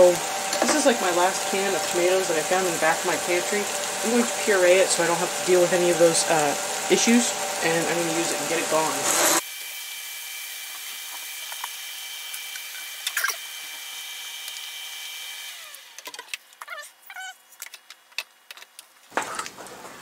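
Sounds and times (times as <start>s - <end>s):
blender running: 0.0s - 16.2s.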